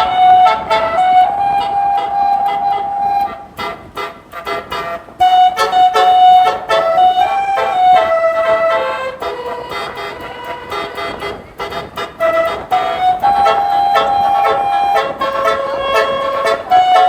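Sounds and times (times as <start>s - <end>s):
bus horn playing a tune: 0.0s - 17.0s.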